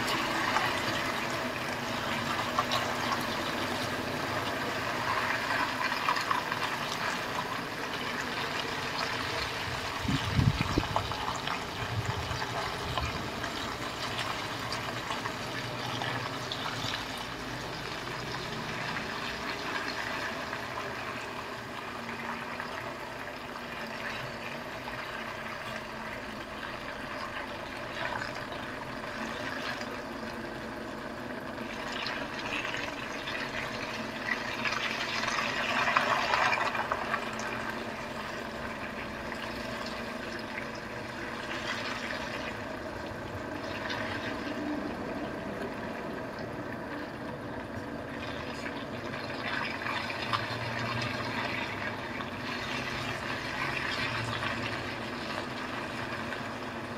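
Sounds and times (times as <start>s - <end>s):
truck engine humming and hissing: 0.0s - 56.9s.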